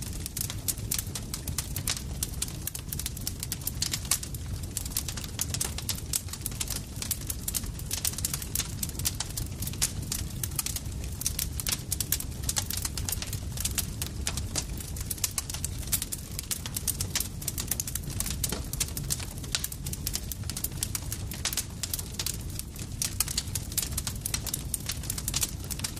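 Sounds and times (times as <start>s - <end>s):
campfire crackling: 0.0s - 25.9s.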